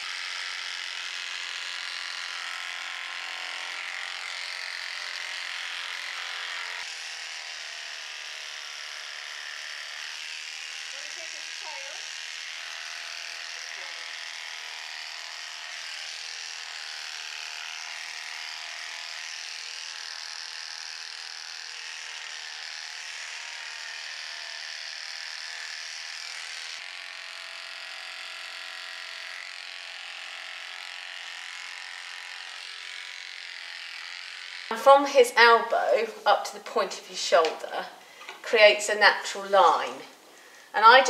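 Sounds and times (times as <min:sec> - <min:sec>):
electric clippers buzzing: 0:00.0 - 0:41.0.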